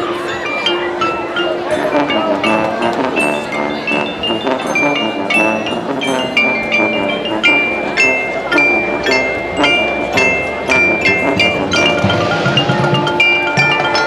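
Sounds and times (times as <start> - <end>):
mallet percussion run: 0.0 - 14.0
sustained band tones: 0.0 - 14.0.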